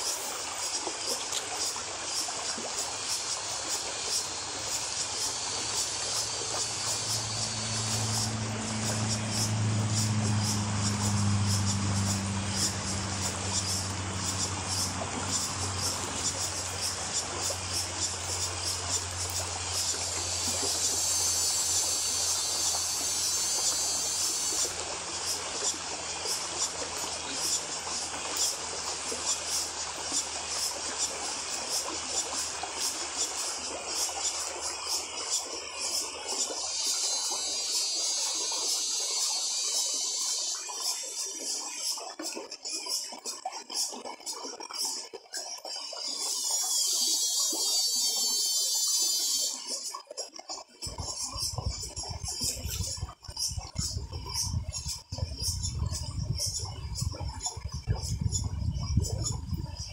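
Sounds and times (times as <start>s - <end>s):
cicadas buzzing: 0.0s - 59.9s
river water over rocks: 0.0s - 59.9s.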